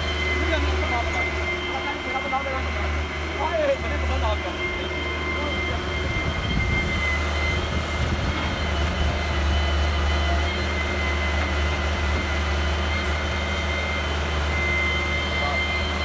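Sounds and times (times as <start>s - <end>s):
heavy machinery engine humming: 0.0s - 16.0s
thin high whine: 0.0s - 16.0s.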